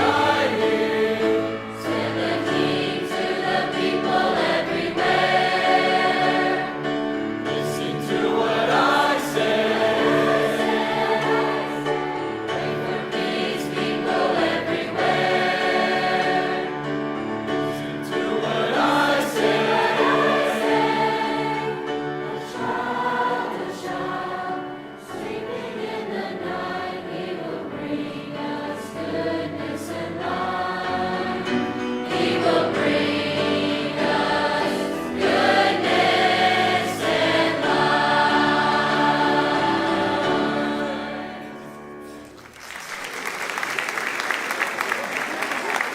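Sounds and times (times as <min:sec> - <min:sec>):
choir singing in harmony: 0:00.0 - 0:42.2.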